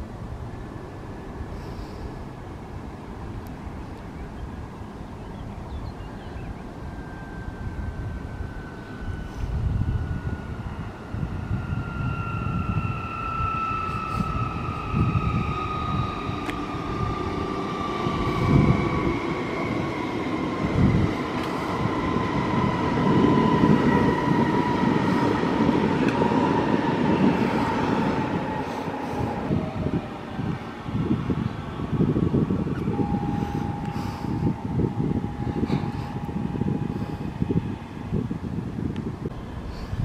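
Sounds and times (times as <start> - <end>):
train wheels rumbling on rails: 6.6 - 40.0.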